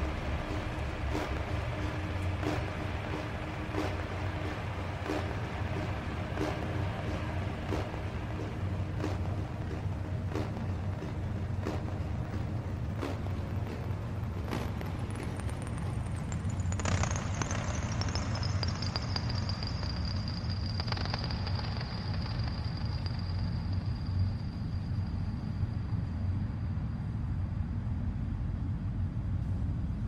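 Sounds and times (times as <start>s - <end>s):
crackling noise: 0.0s - 24.7s
low rumbling drone: 0.0s - 30.0s.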